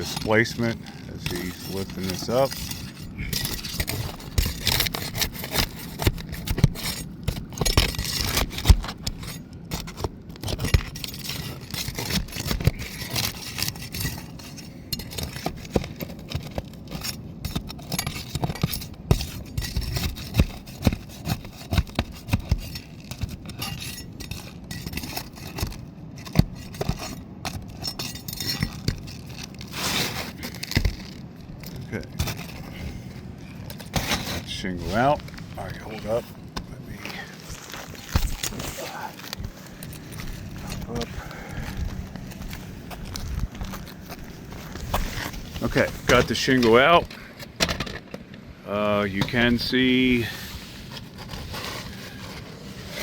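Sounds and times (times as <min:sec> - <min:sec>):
pry bar scraping under shingles: 0:00.0 - 0:53.0.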